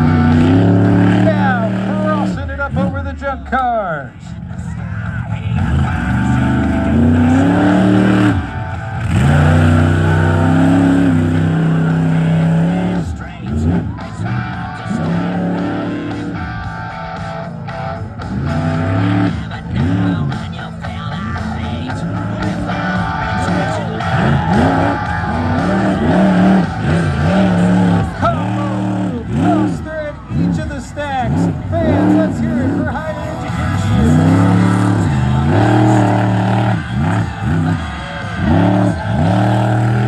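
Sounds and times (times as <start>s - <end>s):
monster truck engine revving: 0.0s - 40.0s
rock music: 0.0s - 40.0s.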